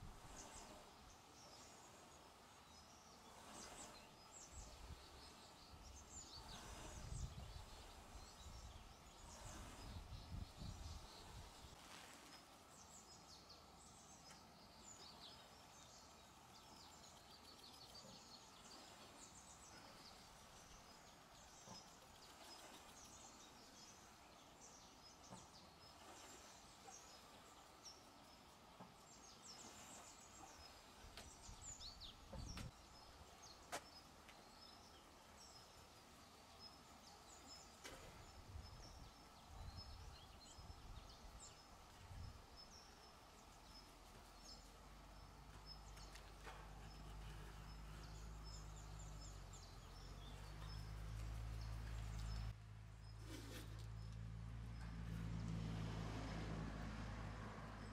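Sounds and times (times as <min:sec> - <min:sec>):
faint birds chirping: 0:00.0 - 0:57.9.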